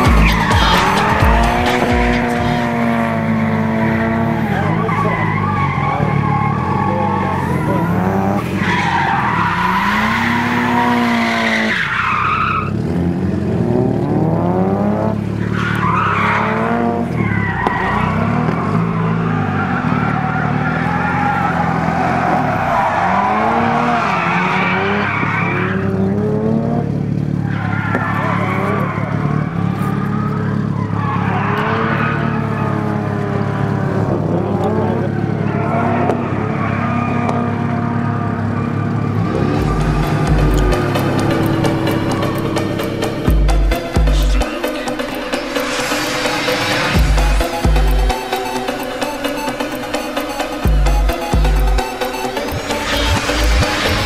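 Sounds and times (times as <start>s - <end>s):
tyres screeching: 0.0s - 13.0s, 15.2s - 26.1s, 27.2s - 54.0s
car engine revving: 0.0s - 54.0s.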